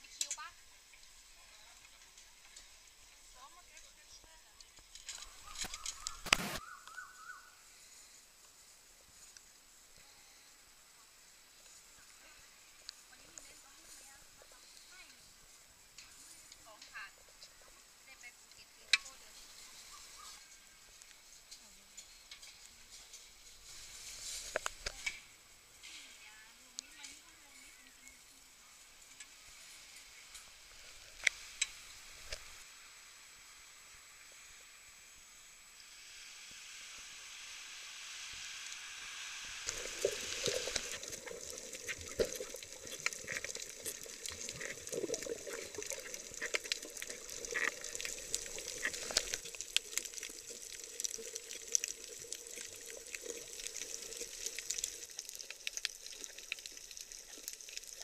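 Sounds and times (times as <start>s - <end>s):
underwater crackling hiss: 0.0s - 58.0s.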